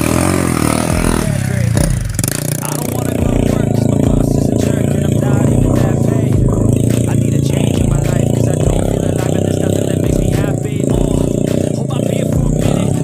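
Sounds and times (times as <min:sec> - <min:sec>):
music playing: 0:00.0 - 0:13.0
small motorcycle engine under load: 0:00.0 - 0:13.0.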